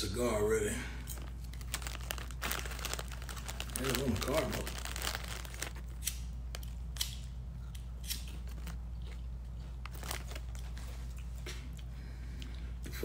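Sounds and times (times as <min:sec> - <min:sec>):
steady low hum: 0:00.0 - 0:13.0
chewing crunchy chips: 0:01.1 - 0:13.0.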